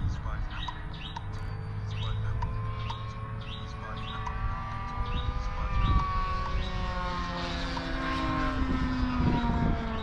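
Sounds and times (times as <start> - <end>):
model airplane engine buzzing: 0.0 - 10.0.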